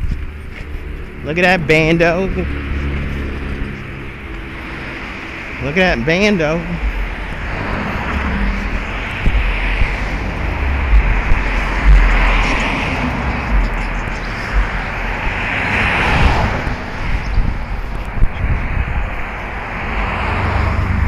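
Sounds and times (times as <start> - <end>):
cars passing: 0.0 - 21.0
constant low traffic rumble: 0.0 - 21.0.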